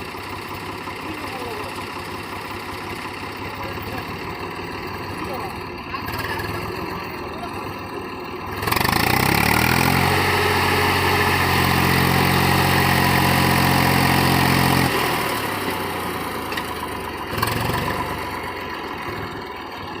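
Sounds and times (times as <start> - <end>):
tractor diesel engine revving: 0.0 - 20.0.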